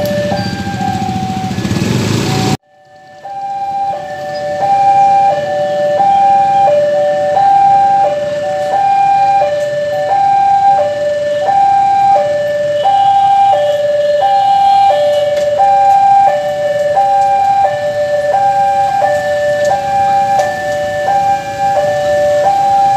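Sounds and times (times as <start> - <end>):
level crossing alarm two-note tone: 0.0 - 22.9.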